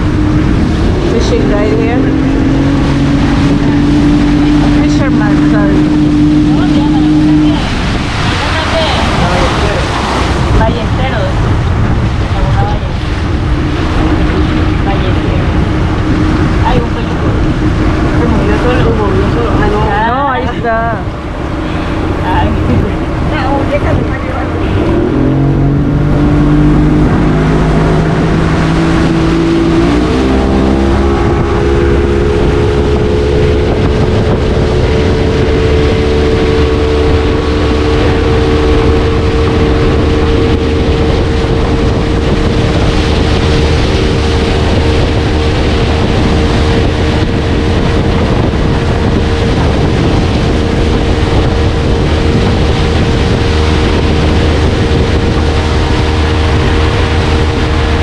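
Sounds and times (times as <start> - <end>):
boat motor running: 0.0 - 58.0
wind buffeting microphone: 0.0 - 58.0.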